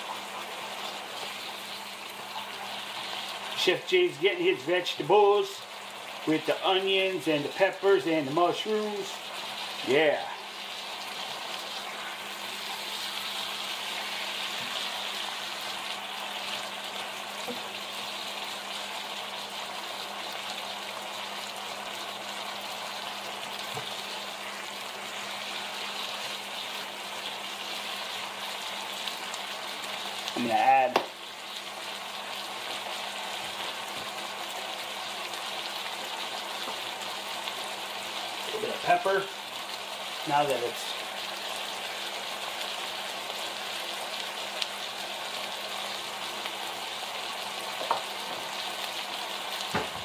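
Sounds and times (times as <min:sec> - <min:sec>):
vegetables sizzling in a pan: 0:00.0 - 0:50.0.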